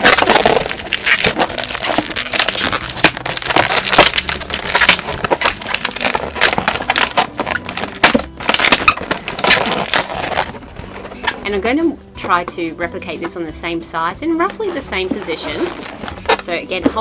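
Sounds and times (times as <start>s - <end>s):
balloons squeaking and rubbing: 0.0s - 11.5s, 14.4s - 17.0s.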